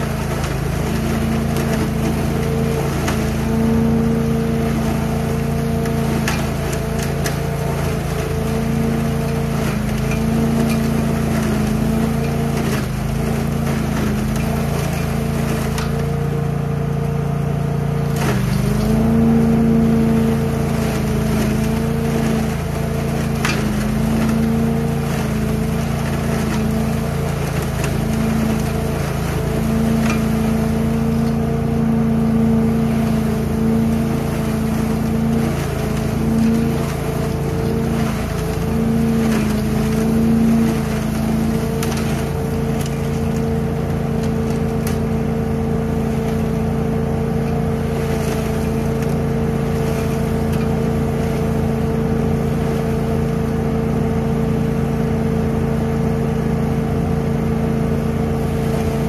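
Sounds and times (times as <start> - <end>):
leaf vacuum running: 0.0 - 59.0.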